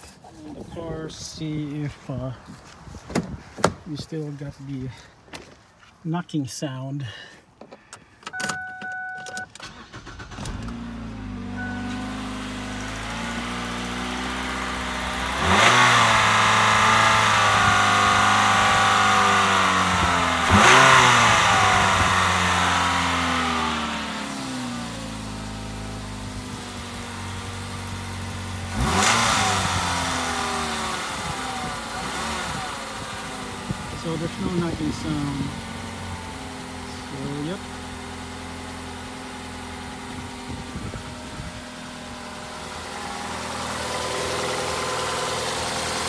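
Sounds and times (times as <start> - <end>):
car engine starting and revving: 8.4 - 46.0.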